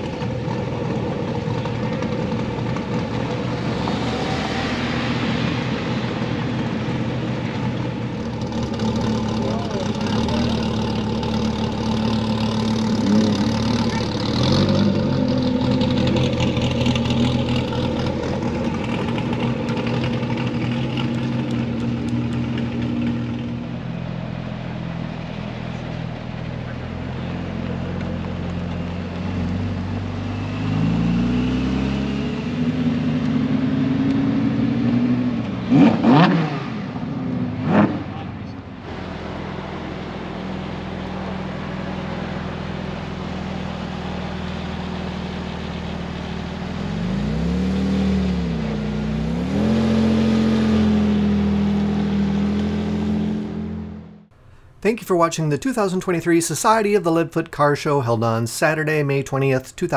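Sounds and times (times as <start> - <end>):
sports car engine revving: 0.0 - 54.8.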